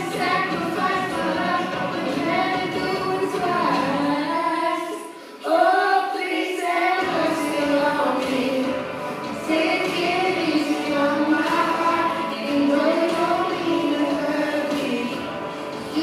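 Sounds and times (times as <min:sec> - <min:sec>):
girl singing into a microphone: 0:00.0 - 0:08.8, 0:09.4 - 0:15.2.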